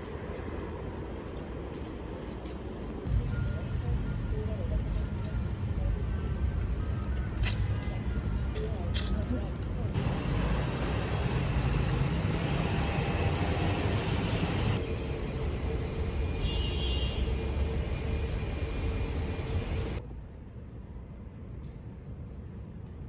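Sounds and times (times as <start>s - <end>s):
moving vehicle rumble: 0.0s - 20.2s.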